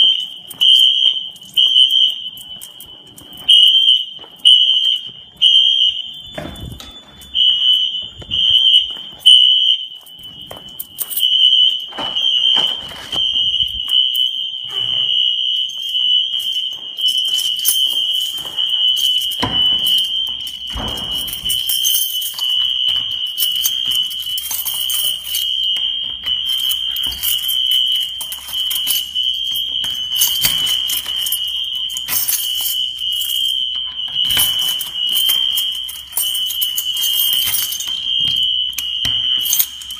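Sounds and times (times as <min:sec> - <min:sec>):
fire alarm horns high-pitched tone: 0:00.0 - 0:39.9
footsteps: 0:00.1 - 0:39.9.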